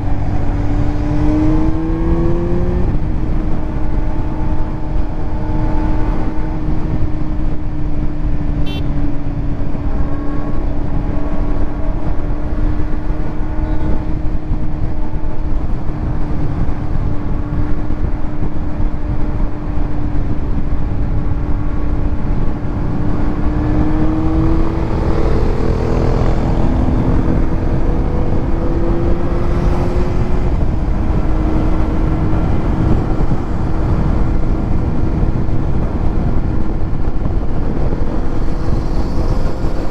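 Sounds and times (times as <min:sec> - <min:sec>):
low wind rush: 0:00.0 - 0:39.9
motorcycle engine running: 0:00.0 - 0:39.9.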